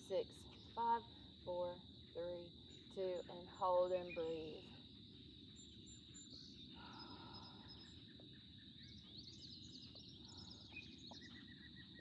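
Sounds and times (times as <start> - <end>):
faint birdsong chirps and trills: 0.0 - 12.0
high insect drone: 0.0 - 12.0
low background hum: 0.0 - 12.0.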